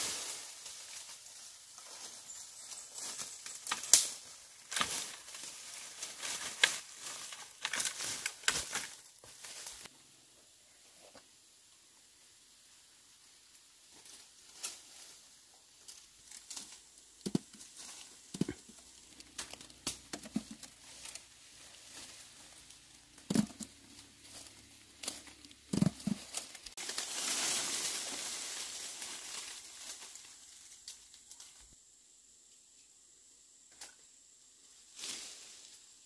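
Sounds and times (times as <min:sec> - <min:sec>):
leaves and twigs rustling: 0:00.0 - 0:09.9, 0:10.8 - 0:31.8, 0:33.8 - 0:36.0.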